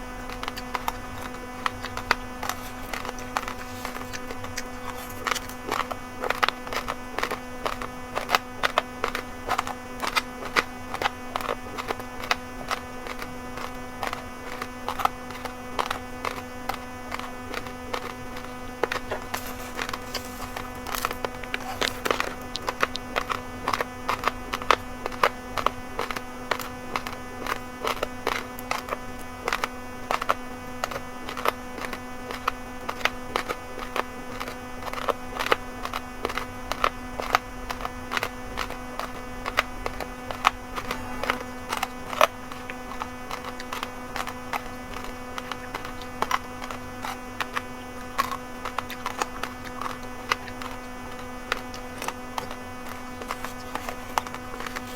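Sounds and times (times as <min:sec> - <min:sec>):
rice grains crunched between teeth: 0:00.0 - 0:54.9
steady buzzing hum: 0:00.0 - 0:54.9.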